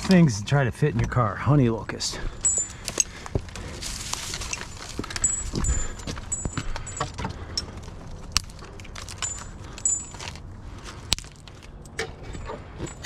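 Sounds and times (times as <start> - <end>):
branches rustling and scraping: 1.9 - 13.0.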